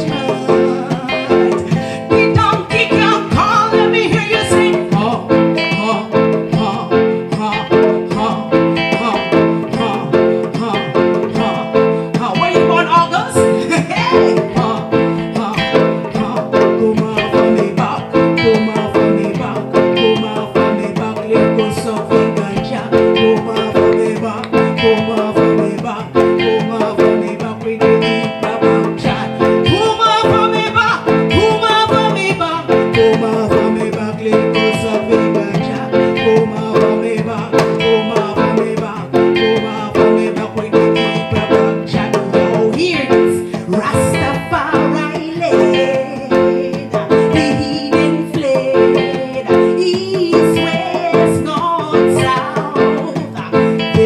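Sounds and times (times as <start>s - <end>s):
live reggae band: 0.0s - 54.0s.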